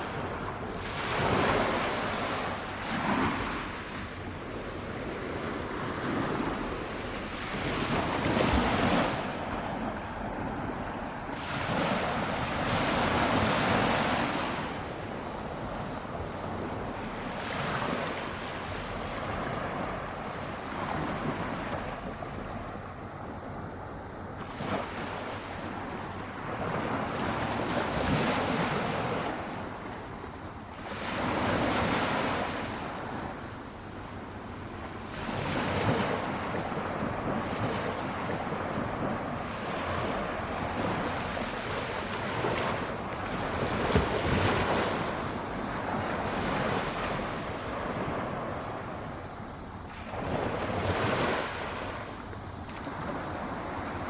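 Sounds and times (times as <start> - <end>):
small waves breaking on shore: 0.0 - 54.0.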